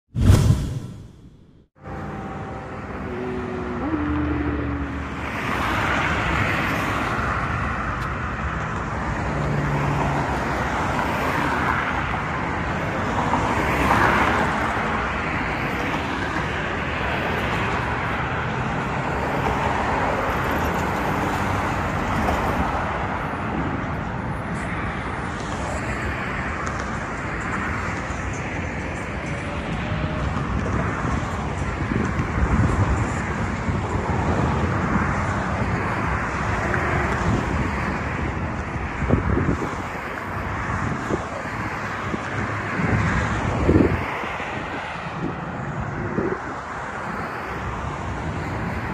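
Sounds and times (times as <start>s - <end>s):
street traffic hum: 0.2s - 48.9s
vehicles passing: 0.2s - 48.9s.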